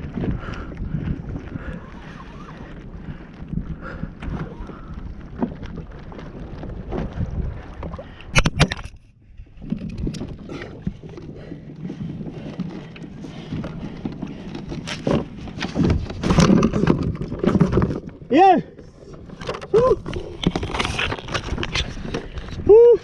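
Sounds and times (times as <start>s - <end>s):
wind and water on microphone: 0.0s - 23.0s.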